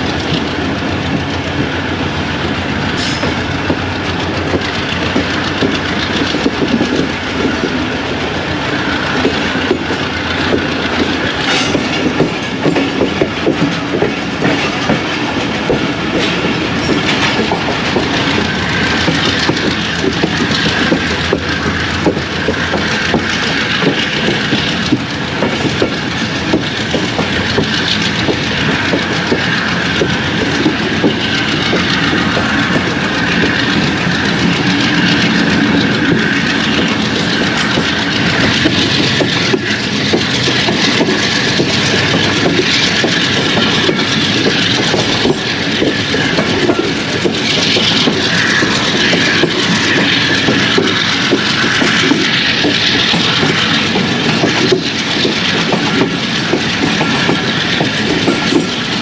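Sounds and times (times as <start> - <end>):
train rolling rumble: 0.0 - 59.0
train wheels clattering: 0.0 - 59.0.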